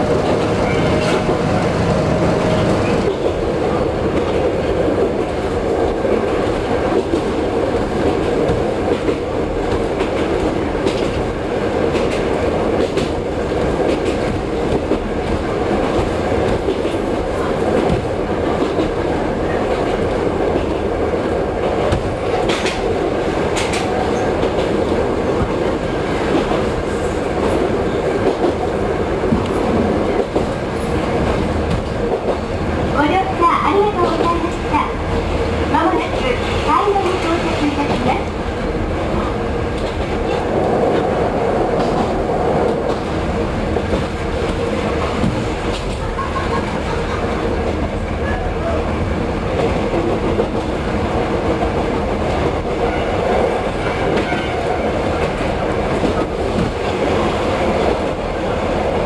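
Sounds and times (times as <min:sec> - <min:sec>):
railcar engine and wheels rumbling: 0:00.0 - 0:59.0.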